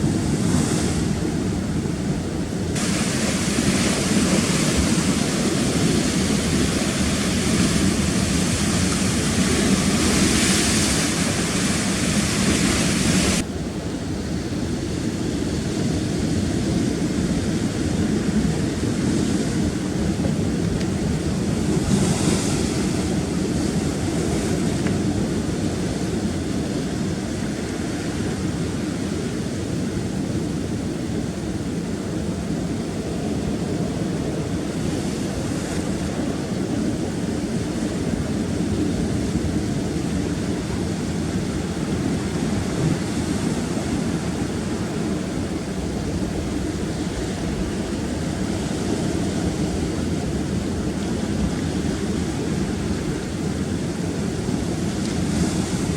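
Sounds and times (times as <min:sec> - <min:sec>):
sea surf breaking: 0:00.0 - 0:55.9.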